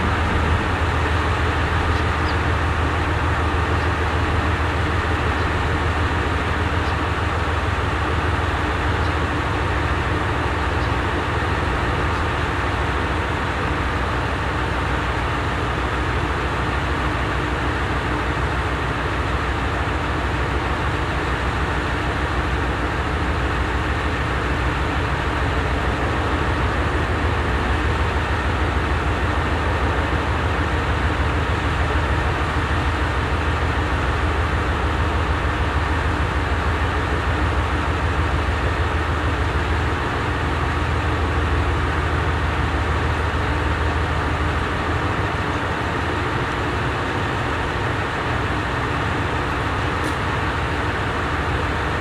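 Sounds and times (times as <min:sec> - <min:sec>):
diesel railcar engine idling: 0:00.0 - 0:52.0.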